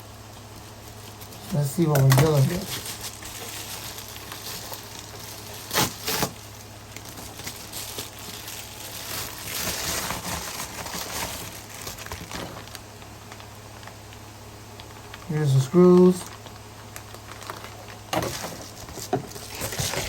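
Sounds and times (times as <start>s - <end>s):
packaging crinkling and rustling: 0.2s - 20.0s.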